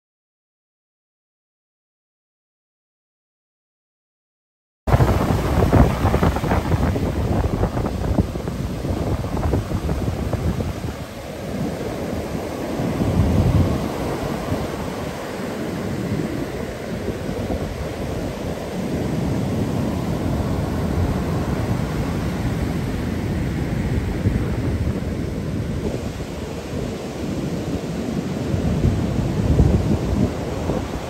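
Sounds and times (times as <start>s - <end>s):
ocean surf crashing on beach: 4.9s - 31.0s.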